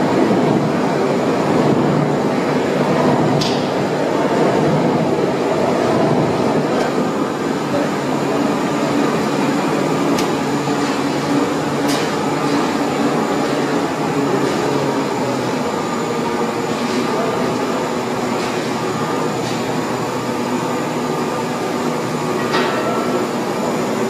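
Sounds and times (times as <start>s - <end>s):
furnace mechanical rumble: 0.0s - 24.0s.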